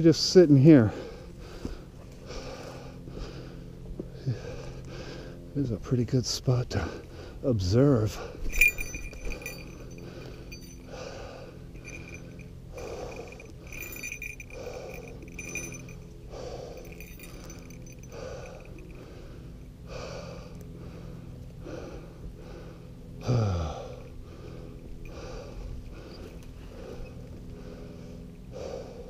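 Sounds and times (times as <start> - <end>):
person breathing hard: 0.8 - 5.5, 6.8 - 7.4, 8.2 - 29.0.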